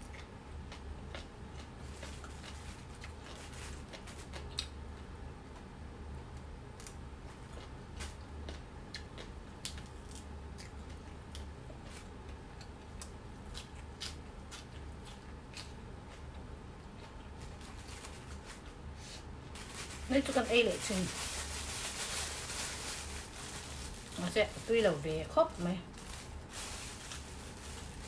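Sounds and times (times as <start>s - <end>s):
crunchy chewing of vegetable stems: 0.0s - 5.7s, 6.3s - 28.0s.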